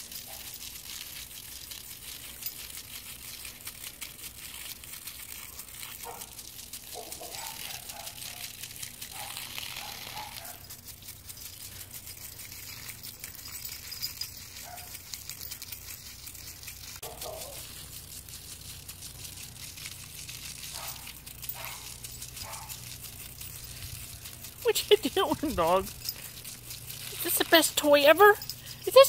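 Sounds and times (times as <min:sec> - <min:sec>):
hose spraying water on lawn: 0:00.0 - 0:29.0
puppy splashing at water: 0:00.0 - 0:29.0.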